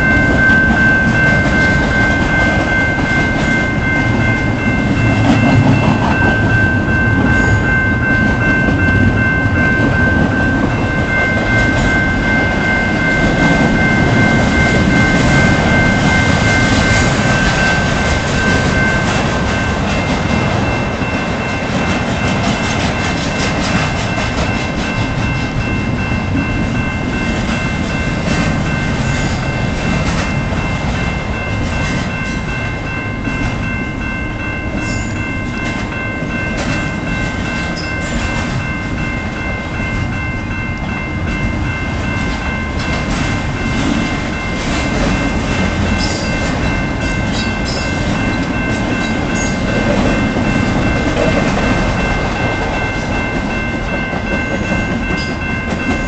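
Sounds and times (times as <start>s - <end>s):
crossing warning bell: 0.0s - 56.0s
freight train rumbling past: 0.0s - 56.0s.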